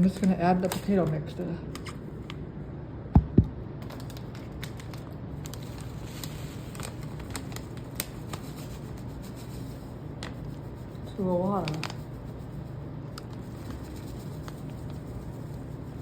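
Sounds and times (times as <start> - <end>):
dry mixture clicking and rustling: 0.0 - 2.4, 3.8 - 16.0.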